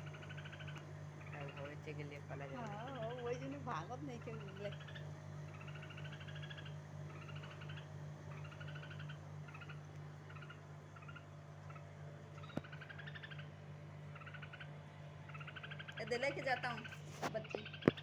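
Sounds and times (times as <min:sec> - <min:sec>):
bird raspy calls: 0:00.0 - 0:18.0.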